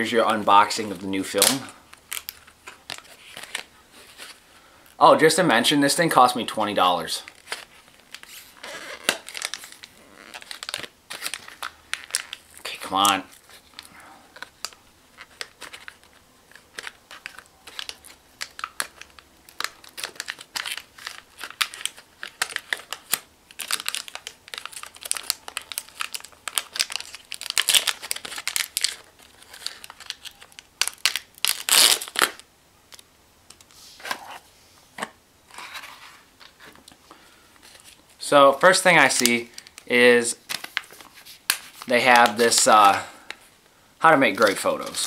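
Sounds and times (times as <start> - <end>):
foil pouch and cardboard crinkling: 0.5 - 4.4, 7.2 - 33.0, 35.5 - 43.5.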